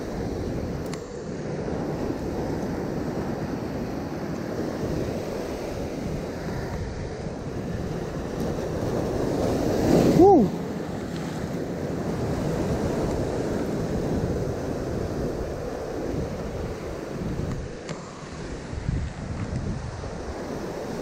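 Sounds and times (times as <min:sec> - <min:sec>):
surf breaking over rocks: 0:00.0 - 0:21.0
wind buffeting microphone: 0:00.0 - 0:21.0.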